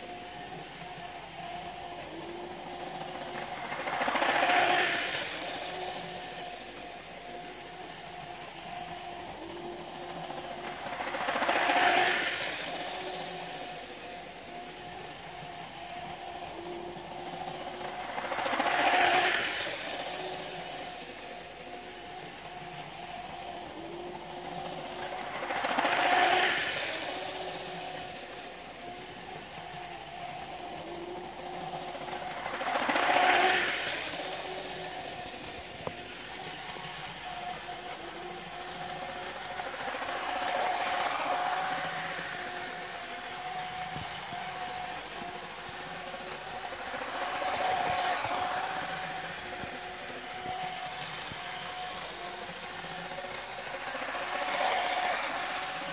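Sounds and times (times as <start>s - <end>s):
model train motor whine: 0.0s - 55.9s.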